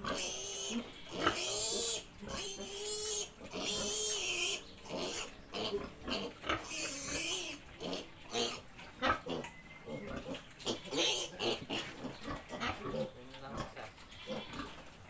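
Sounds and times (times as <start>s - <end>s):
piglet squealing and grunting: 0.0s - 14.8s.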